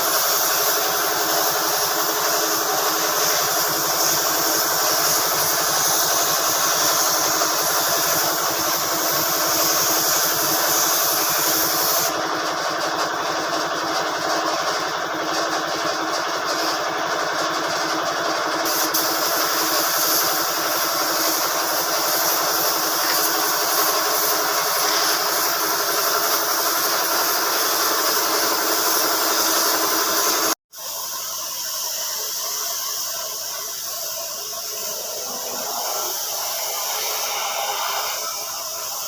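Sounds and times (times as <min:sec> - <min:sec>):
machine running with hiss: 0:00.0 - 0:39.0.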